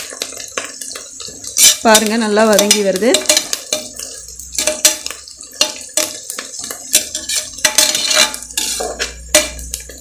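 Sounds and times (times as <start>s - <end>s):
metal ladle scraping a pot: 0.2s - 10.0s.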